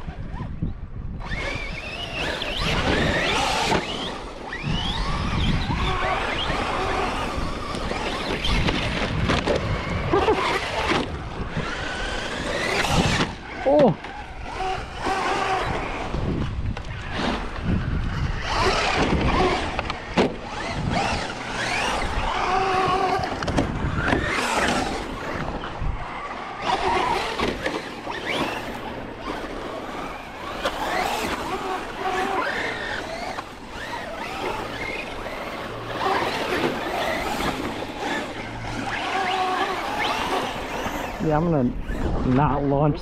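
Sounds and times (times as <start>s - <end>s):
electric motors whining: 0.0s - 43.0s.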